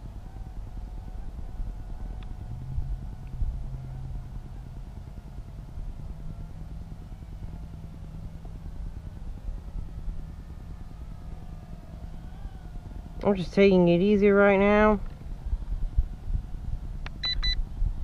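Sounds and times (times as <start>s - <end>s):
drone motors whining: 0.0s - 17.6s
low fluttering rumble: 0.0s - 18.0s.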